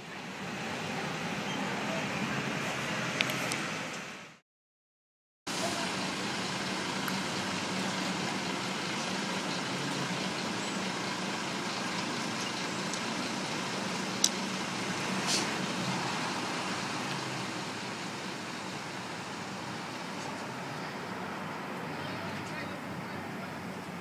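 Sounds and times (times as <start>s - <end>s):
outdoor traffic noise: 0.0s - 4.4s, 5.5s - 24.0s.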